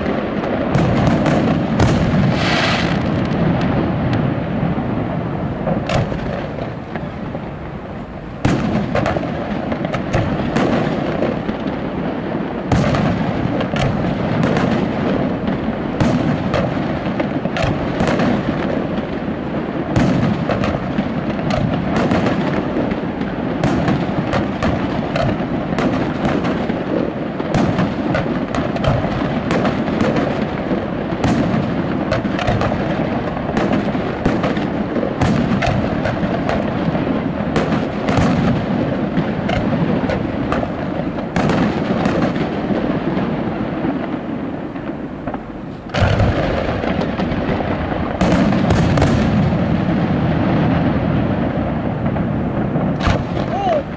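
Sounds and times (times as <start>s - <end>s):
firework shells bursting: 0.0s - 53.9s.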